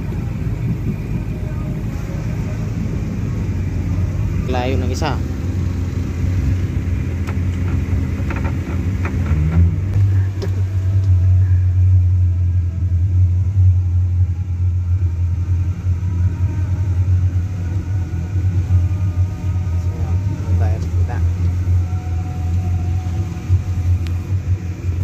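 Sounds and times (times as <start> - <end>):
boat engines rumbling: 0.0 - 25.0.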